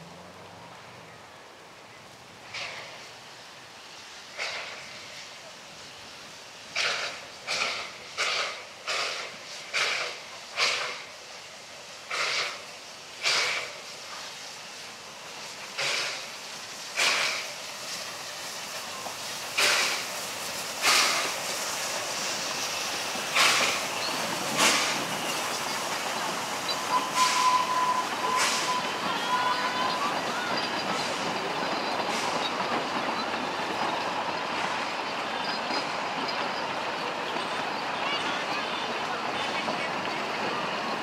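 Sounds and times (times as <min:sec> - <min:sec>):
train rolling by rumble: 0:00.0 - 0:41.0
steam locomotive chuffing: 0:02.4 - 0:41.0.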